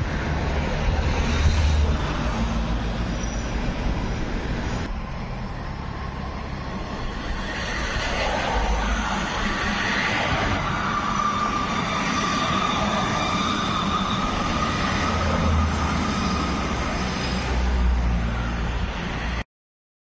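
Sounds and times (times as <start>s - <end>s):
train rumble: 0.0s - 19.4s
high wheel squeal: 1.2s - 4.9s, 6.8s - 19.3s.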